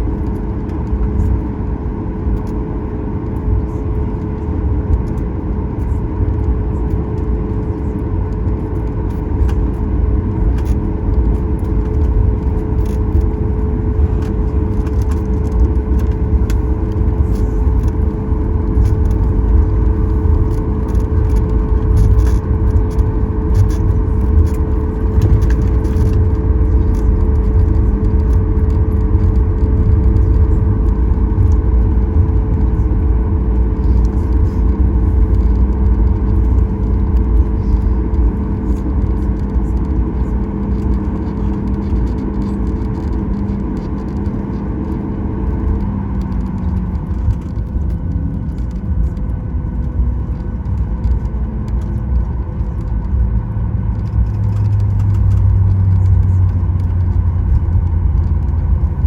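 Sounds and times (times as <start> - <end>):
aircraft engines idling: 0.0 - 53.2
low cabin rumble: 0.0 - 59.0.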